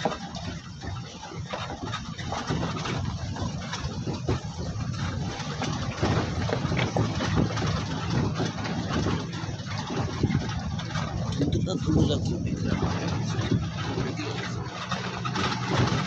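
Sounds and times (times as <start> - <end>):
bodywork knocks and rattles: 0.0 - 16.0
vehicle engine running: 0.0 - 16.0.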